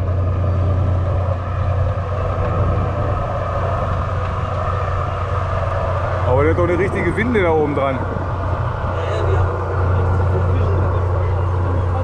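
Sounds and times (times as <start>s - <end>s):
boat engine humming: 0.0s - 12.0s
wash of noise: 0.0s - 12.0s.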